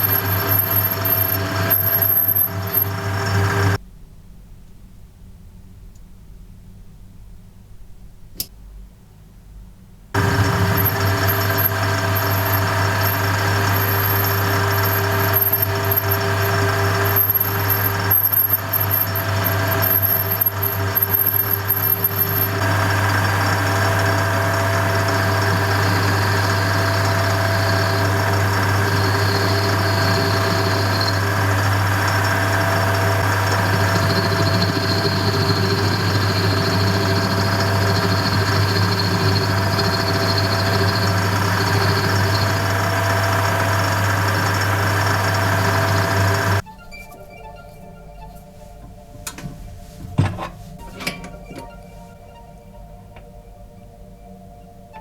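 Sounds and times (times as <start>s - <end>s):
faint high whine: 0.0s - 3.8s, 10.2s - 55.0s
lathe running with low hum: 0.0s - 3.8s, 10.2s - 53.7s.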